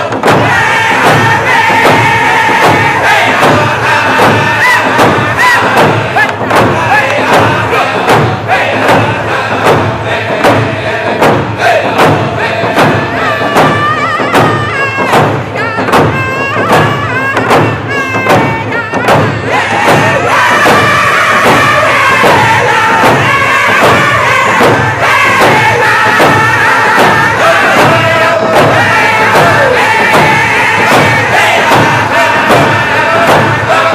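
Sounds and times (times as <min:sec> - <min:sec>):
group of voices singing: 0:00.0 - 0:33.9
hand drums steady beat: 0:00.0 - 0:33.9.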